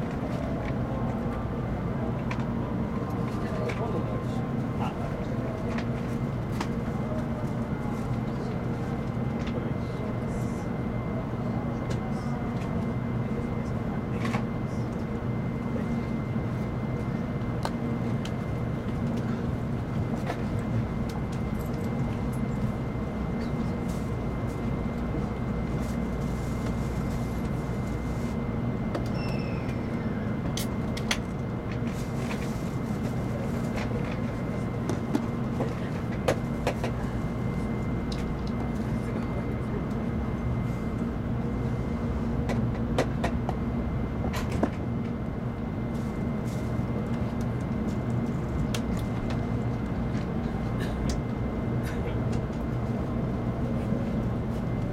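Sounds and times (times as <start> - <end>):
constant hum: 0.0 - 54.9
thin steady whine: 0.0 - 54.9
train cabin rumble: 0.0 - 54.9.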